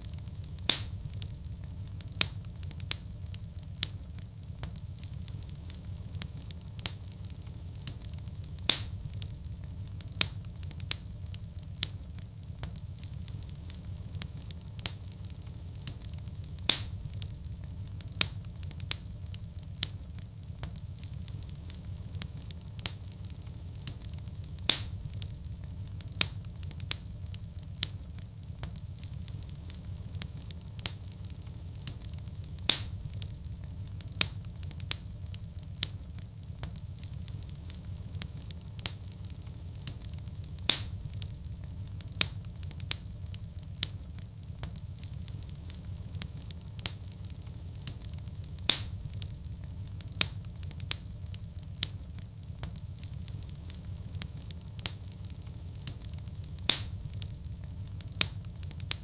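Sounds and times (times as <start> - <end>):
fire crackles and pops: 0.0 - 59.0
fire rumble: 0.0 - 59.0.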